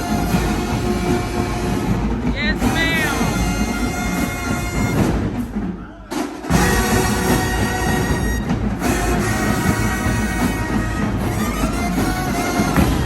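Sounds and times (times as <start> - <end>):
drums: 0.0 - 13.0
marching band brass chords: 0.0 - 13.0.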